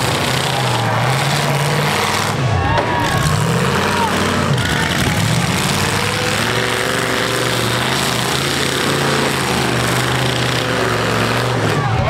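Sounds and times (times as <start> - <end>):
car engines droning loudly: 0.0 - 12.0.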